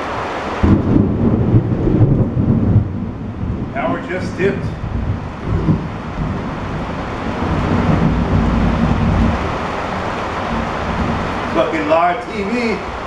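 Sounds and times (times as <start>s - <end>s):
rain hissing: 0.0s - 13.0s
thunder rumbling: 0.0s - 13.0s.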